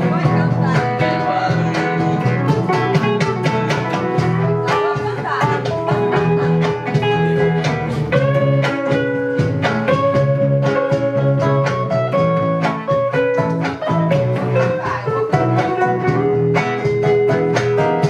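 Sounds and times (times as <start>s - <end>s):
electric bass: 0.0s - 18.0s
electric guitar: 0.0s - 18.0s
nylon-string classical guitar: 0.0s - 18.0s
steel-string acoustic guitar: 0.0s - 18.0s.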